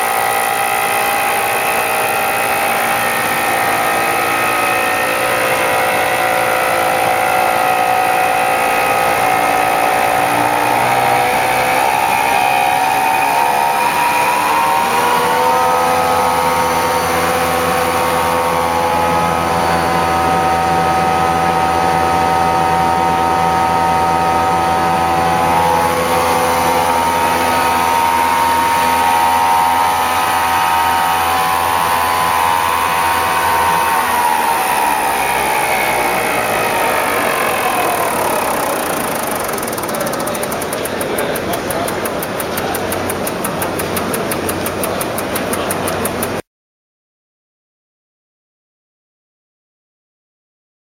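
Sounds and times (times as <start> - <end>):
machine whine: 0.0 - 46.4.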